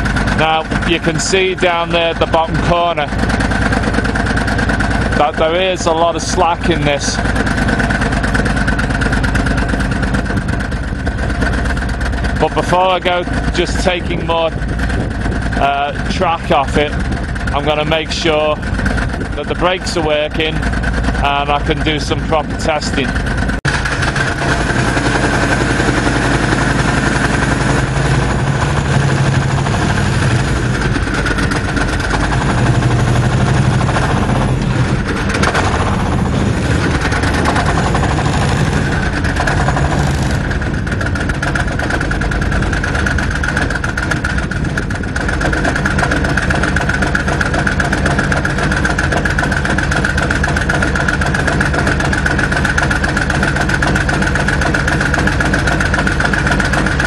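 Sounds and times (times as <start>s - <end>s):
tank engine running: 0.0s - 57.0s.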